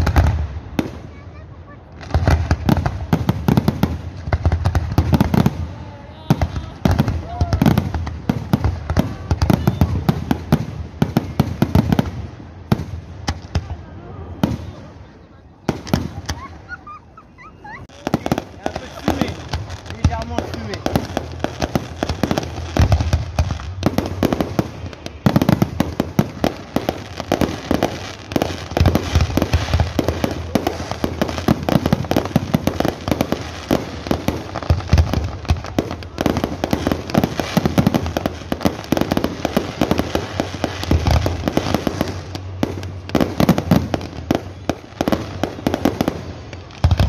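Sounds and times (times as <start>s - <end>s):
fireworks bangs and crackling: 0.0s - 47.0s
low fireworks booms: 0.0s - 47.0s.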